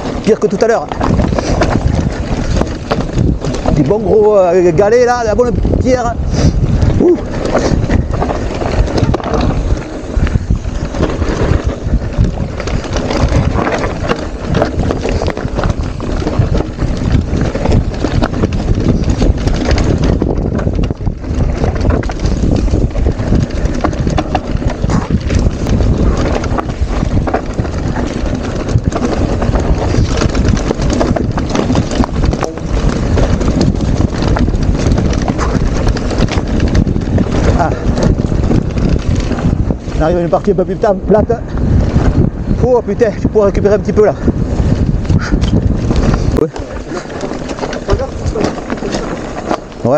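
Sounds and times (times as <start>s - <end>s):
mountain bike rattling over stones: 0.0s - 49.9s
wind rumbling on microphone: 0.0s - 49.9s.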